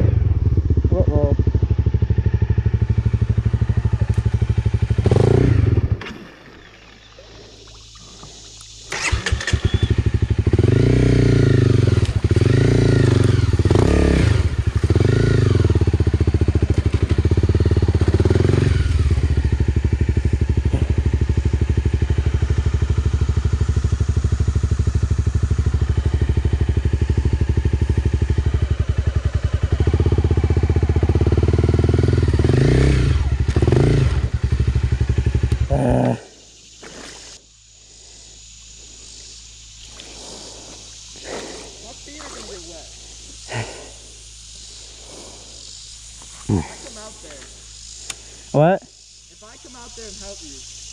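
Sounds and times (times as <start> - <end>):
motorcycle engine revving: 0.0 - 6.2, 8.3 - 37.1, 40.2 - 50.9.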